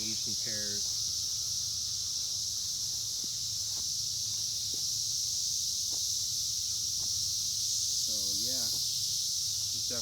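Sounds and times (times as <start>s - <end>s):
cicada chorus drone: 0.0s - 10.0s.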